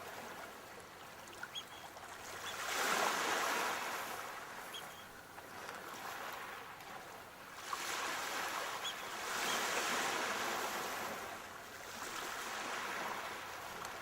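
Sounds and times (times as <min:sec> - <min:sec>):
sea waves breaking on shore: 0:00.0 - 0:14.0.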